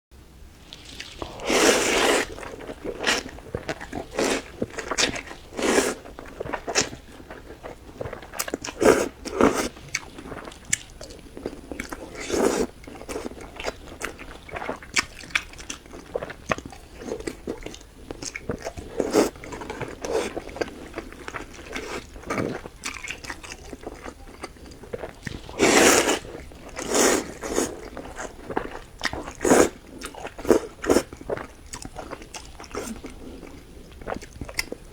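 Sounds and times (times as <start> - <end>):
chewing and crunchy bites: 0.7 - 34.9.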